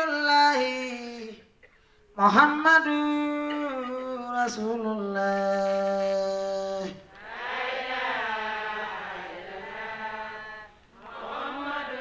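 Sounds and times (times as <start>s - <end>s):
devotional chanting: 0.0s - 1.5s, 2.2s - 12.0s.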